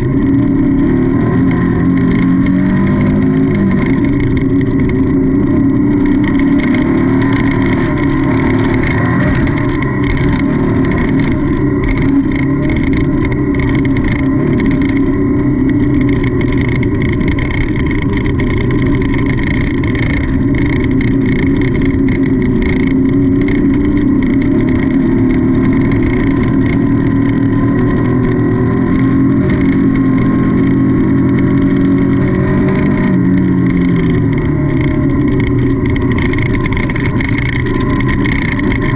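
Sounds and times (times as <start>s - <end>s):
clatter of knocks and rattles: 0.0s - 38.9s
race car engine running hard: 0.0s - 38.9s.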